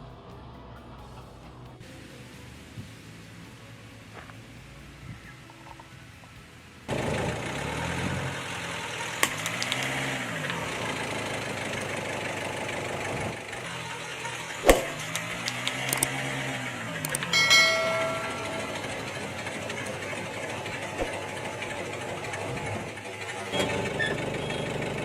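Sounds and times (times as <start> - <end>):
car engine running: 4.1 - 25.0.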